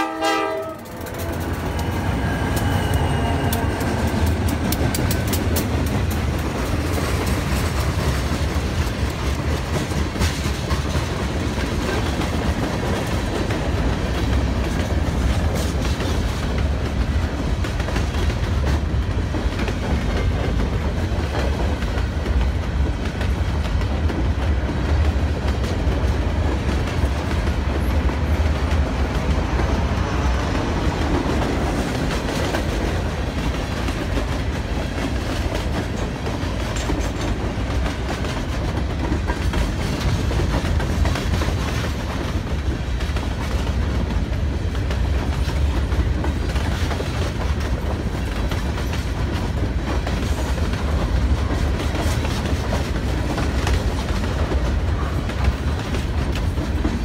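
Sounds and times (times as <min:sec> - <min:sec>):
train wheels rumbling on rails: 0:00.0 - 0:57.0
wheels clicking over rail joints: 0:00.0 - 0:57.0.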